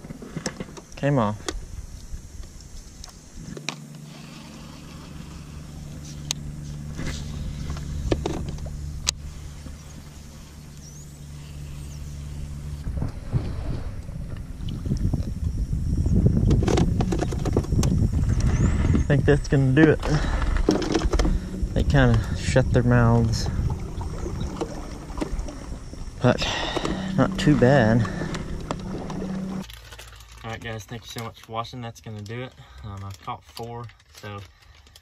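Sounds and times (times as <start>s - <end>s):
electric motor humming: 1.6s - 29.6s.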